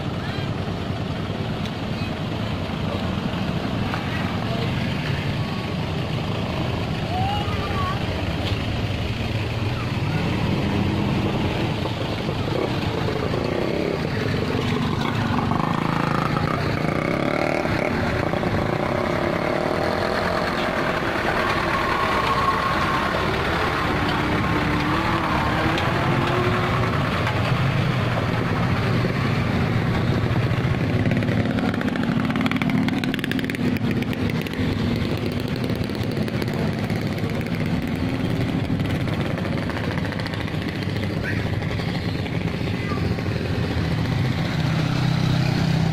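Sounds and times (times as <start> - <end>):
motorcycle engine revving: 1.1 - 45.9
truck engine passing: 2.3 - 45.9.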